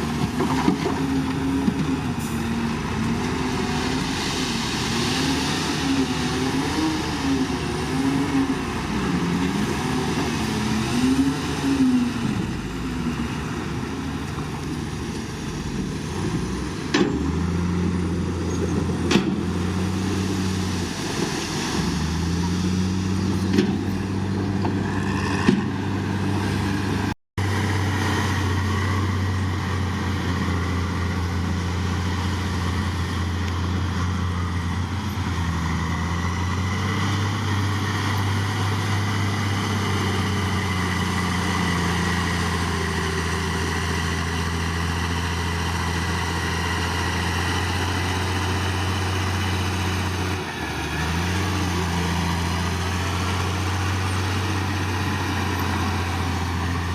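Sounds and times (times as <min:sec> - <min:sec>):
heavy diesel engine: 0:00.0 - 0:56.9.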